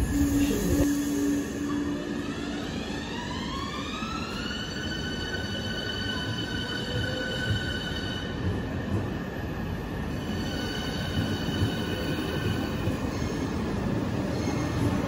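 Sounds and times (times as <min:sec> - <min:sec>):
train wheels rumbling on rails: 0:01.9 - 0:15.0.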